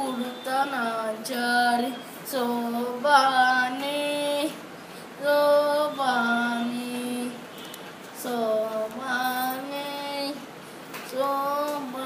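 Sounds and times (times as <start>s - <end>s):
boy singing unaccompanied: 0.0s - 7.5s, 8.1s - 12.0s.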